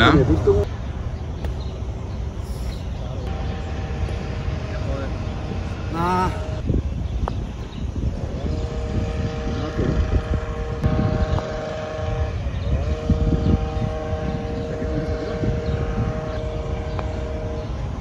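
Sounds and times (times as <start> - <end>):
wind rumble on microphone: 0.0 - 18.0
electric motor whine: 2.5 - 18.0.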